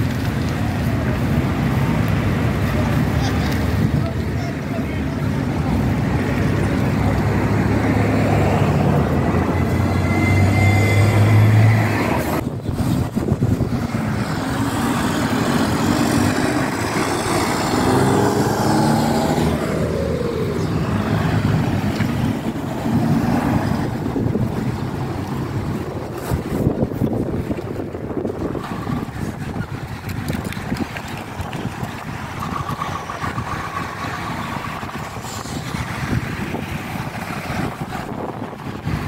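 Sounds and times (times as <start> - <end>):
truck diesel engines: 0.0 - 39.0
vehicles passing: 0.0 - 39.0.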